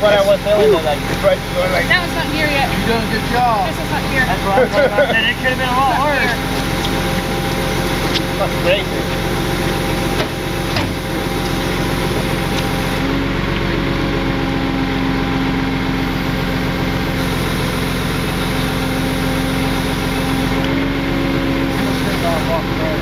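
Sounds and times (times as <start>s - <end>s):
truck engine running: 0.0s - 23.0s
winch pulling under load: 0.0s - 23.0s.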